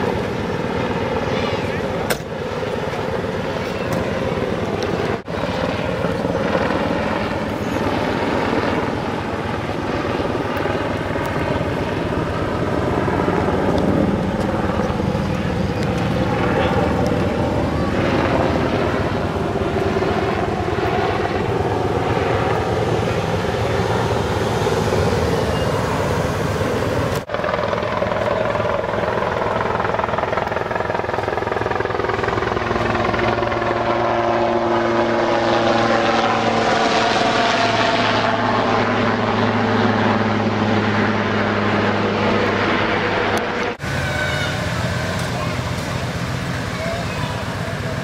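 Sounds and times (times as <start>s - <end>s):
helicopter flying over: 0.0s - 48.0s.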